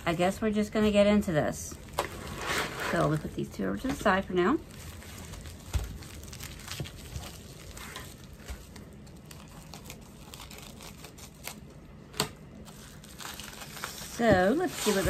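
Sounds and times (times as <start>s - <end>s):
plastic bag crinkling: 1.7s - 15.0s.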